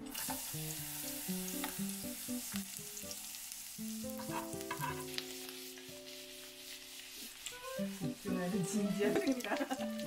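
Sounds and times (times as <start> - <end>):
garlic sizzling in hot oil: 0.0 - 10.0
light background music: 0.1 - 10.0.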